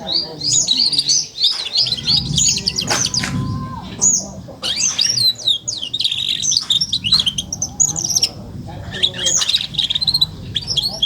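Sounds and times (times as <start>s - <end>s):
canary twittering: 0.0s - 11.0s.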